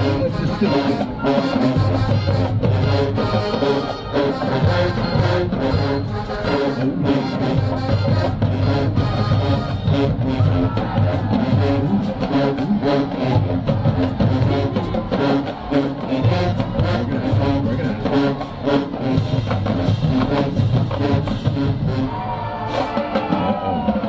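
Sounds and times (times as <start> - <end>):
marching band playing: 0.0 - 24.0
steady drumbeat: 0.0 - 24.0.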